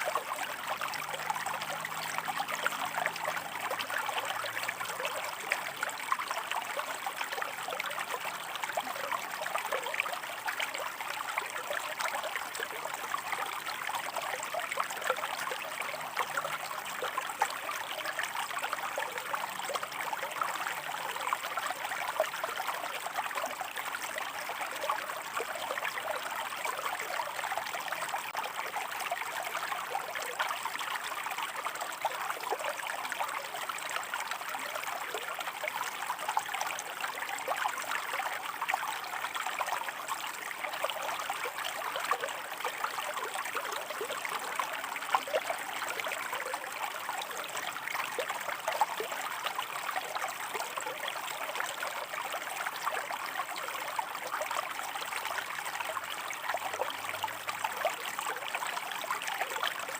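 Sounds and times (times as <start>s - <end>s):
water flowing over rocks: 0.0s - 59.9s.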